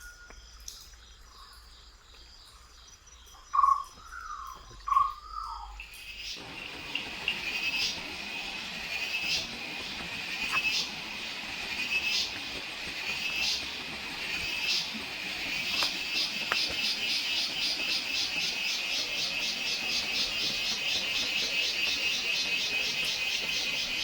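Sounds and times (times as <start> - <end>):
insects droning: 0.0 - 24.0
pulsing insect call: 0.0 - 24.0.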